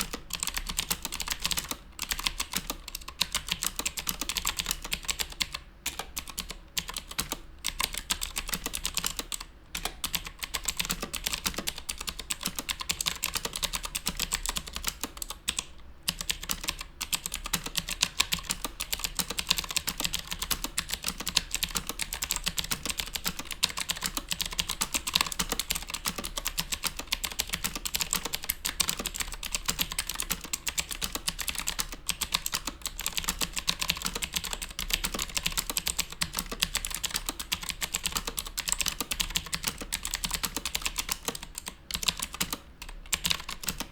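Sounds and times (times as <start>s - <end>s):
mechanical keyboard typing: 0.0s - 43.9s.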